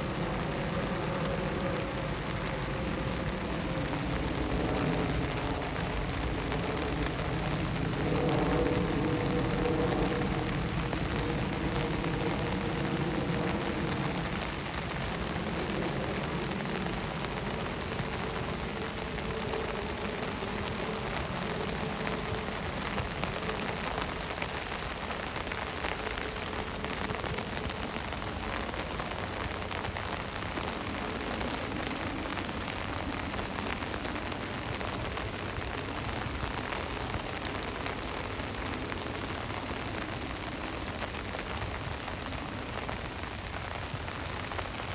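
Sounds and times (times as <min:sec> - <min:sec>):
rain falling on wet street: 0:00.0 - 0:44.9.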